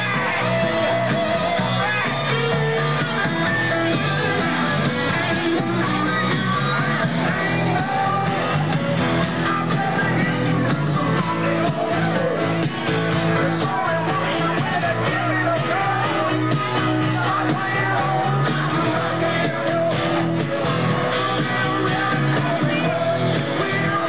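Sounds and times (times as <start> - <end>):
rock song with guitar and singing: 0.0 - 24.0.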